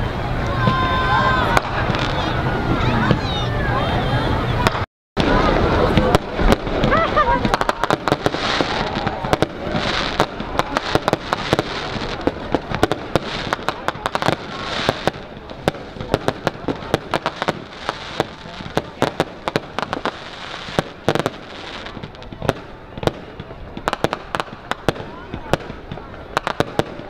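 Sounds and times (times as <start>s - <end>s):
fireworks bangs and pops: 0.6s - 2.3s, 4.6s - 27.0s.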